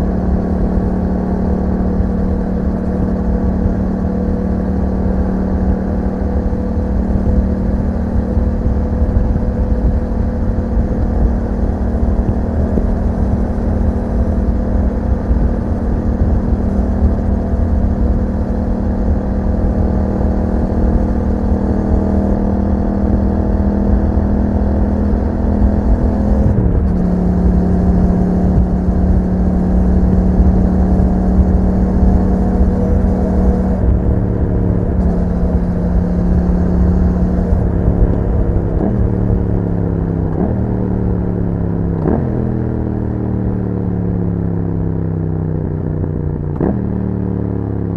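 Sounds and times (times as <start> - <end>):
motorcycle engine under way: 0.0 - 47.9.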